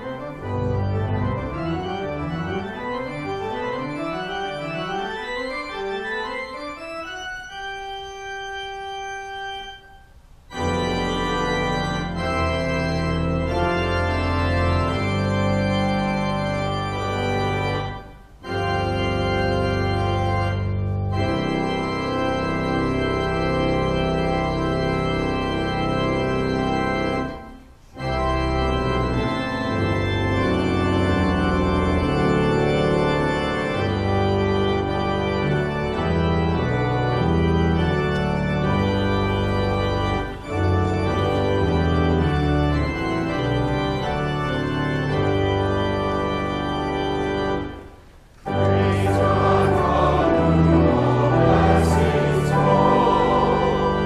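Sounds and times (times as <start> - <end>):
church pipe organ playing: 0.0 - 54.0.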